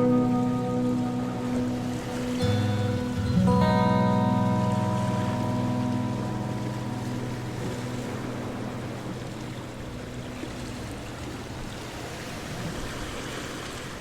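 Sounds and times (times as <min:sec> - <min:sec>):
plucked guitar chord: 0:00.0 - 0:11.7
ocean waves washing ashore: 0:00.0 - 0:14.0.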